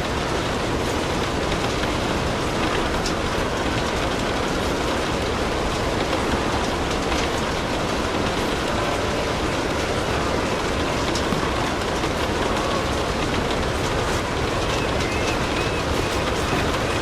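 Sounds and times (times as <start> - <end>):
fireplace fire crackling: 0.0 - 17.0
steady rain: 0.0 - 17.0.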